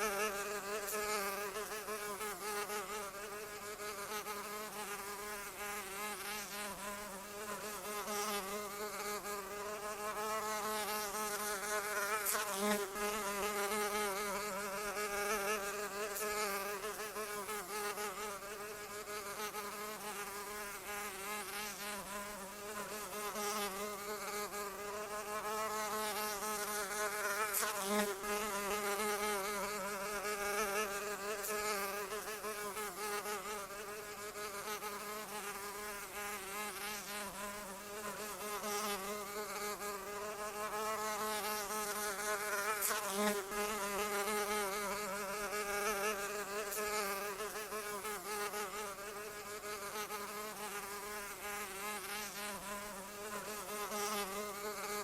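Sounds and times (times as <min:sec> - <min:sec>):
fly buzzing: 0:00.0 - 0:55.0.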